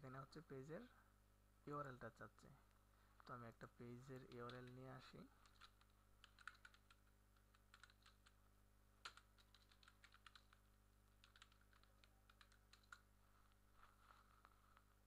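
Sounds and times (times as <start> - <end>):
faint keyboard typing: 2.7 - 15.0.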